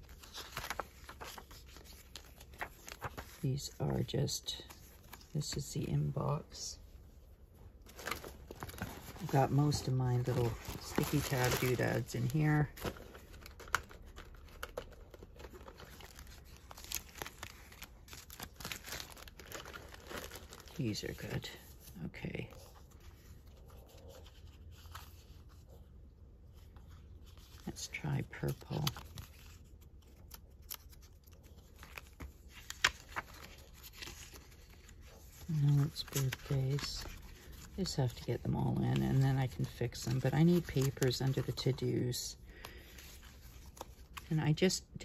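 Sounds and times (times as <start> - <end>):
paper and plastic rustling: 0.0 - 5.9, 7.8 - 25.9, 26.5 - 44.9.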